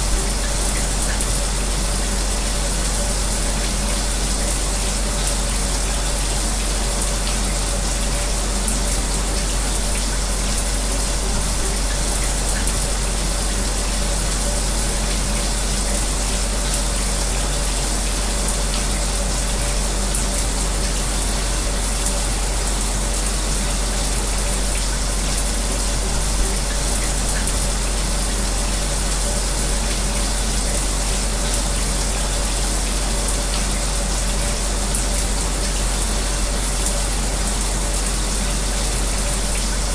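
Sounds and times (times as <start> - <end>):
electric fan humming: 0.0 - 39.9
shower spraying water: 0.0 - 39.9.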